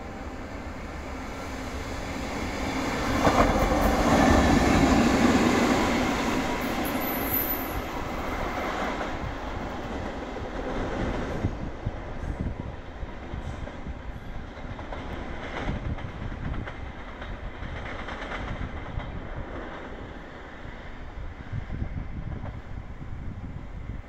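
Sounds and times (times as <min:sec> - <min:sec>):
locomotive passing on rails: 0:00.0 - 0:24.0.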